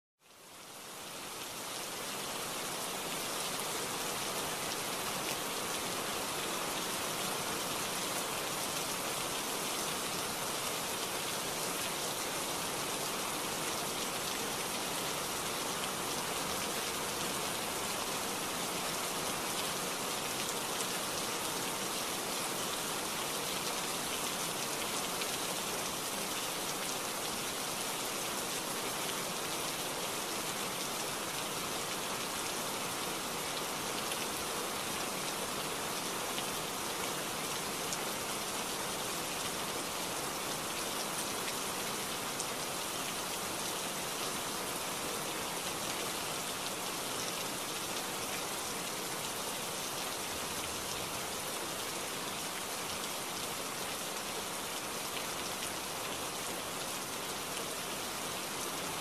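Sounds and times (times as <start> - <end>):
steady rain hiss: 0.2 - 59.0.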